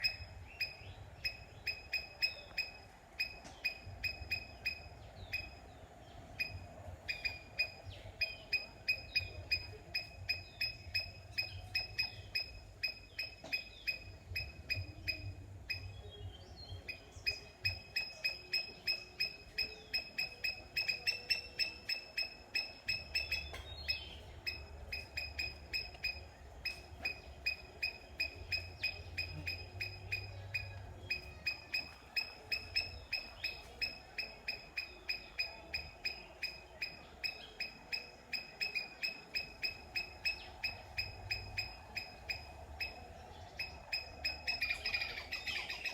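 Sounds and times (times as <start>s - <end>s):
animal chirping high-pitched: 0.0s - 5.6s, 6.4s - 16.0s, 16.9s - 45.9s.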